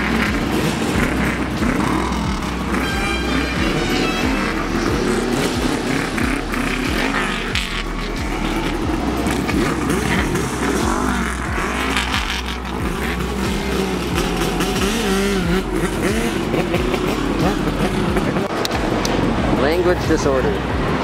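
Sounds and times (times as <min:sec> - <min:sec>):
motorcycle engines revving: 0:00.0 - 0:21.0
steady low engine rumble: 0:00.0 - 0:21.0.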